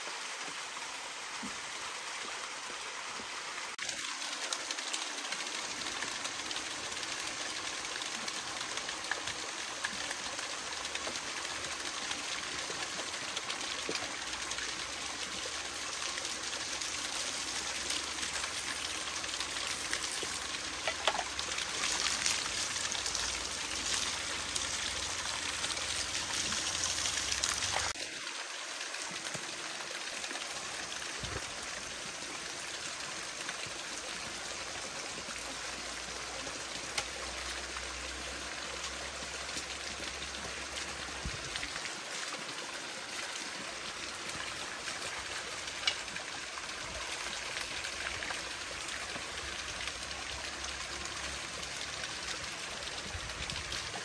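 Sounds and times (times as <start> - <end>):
running water in stream: 0.0 - 54.0.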